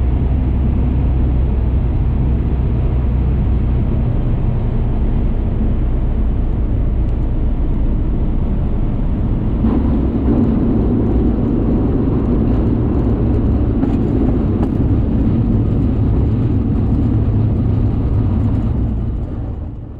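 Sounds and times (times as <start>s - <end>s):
aircraft piston engine drone: 0.0s - 19.9s.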